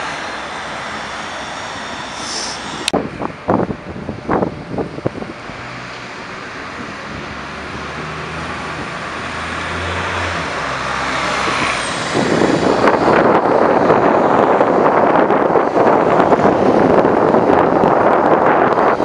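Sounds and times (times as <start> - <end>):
bus diesel engine passing: 0.0 - 19.0.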